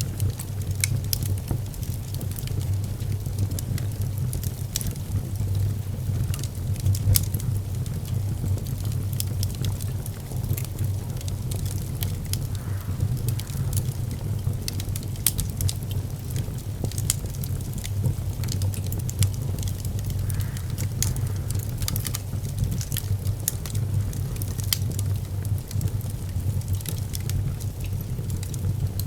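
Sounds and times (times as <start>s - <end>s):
fire crackling and popping: 0.0s - 29.0s
fire rumbling in fireplace: 0.0s - 29.0s.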